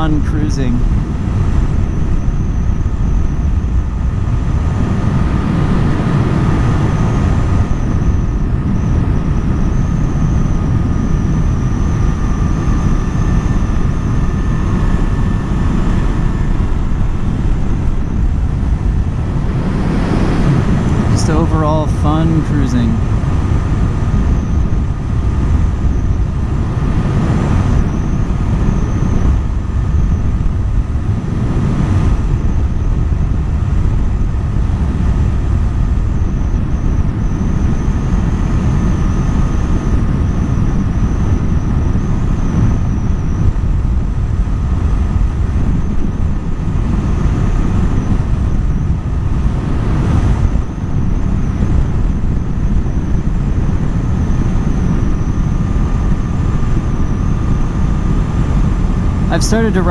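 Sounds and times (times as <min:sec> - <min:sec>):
wind noise on microphone: 0:00.0 - 0:21.6, 0:22.2 - 0:59.9.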